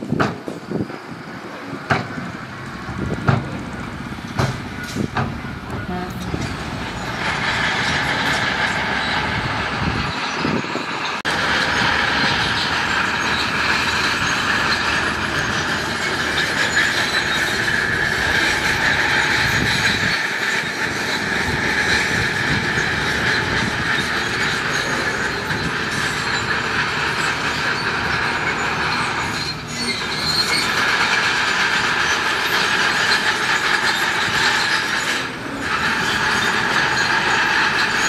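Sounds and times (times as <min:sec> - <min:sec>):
diesel engine running: 0:00.0 - 0:38.0
steel tracks squealing and clanking: 0:00.0 - 0:38.0.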